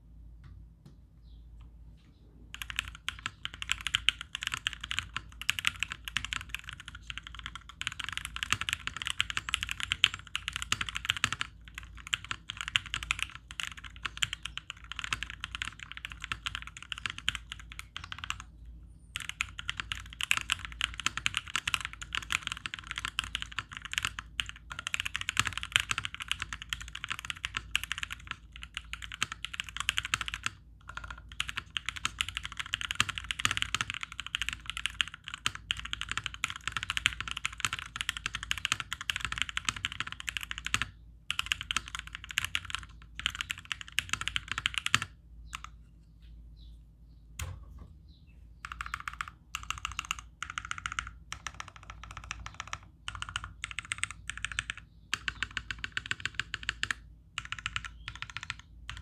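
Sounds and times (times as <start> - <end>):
fast typing on mechanical keyboard: 2.5 - 18.5, 19.1 - 45.8, 48.6 - 59.0.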